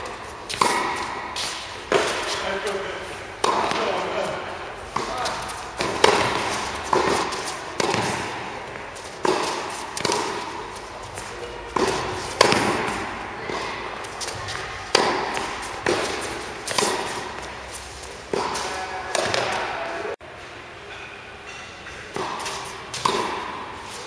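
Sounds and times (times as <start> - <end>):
tennis ball bouncing on court: 0.0 - 2.8, 3.4 - 17.7, 18.3 - 19.8, 21.8 - 23.7
tennis ball struck by rackets: 0.0 - 2.8, 3.4 - 17.6, 18.2 - 19.8, 21.8 - 23.7.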